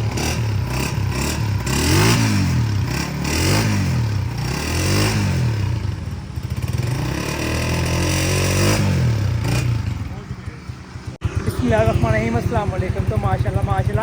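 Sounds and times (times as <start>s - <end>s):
motorcycle engine revving and idling: 0.0s - 14.0s.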